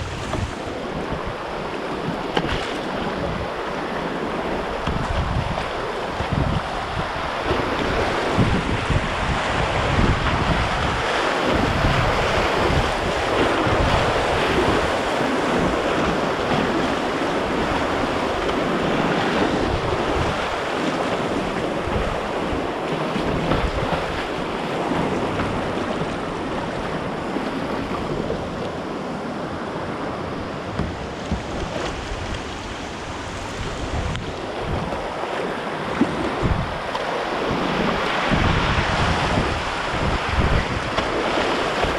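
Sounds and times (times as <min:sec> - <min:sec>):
whitewater rapids rushing: 0:00.0 - 0:41.9
wind buffeting microphone: 0:00.0 - 0:41.9.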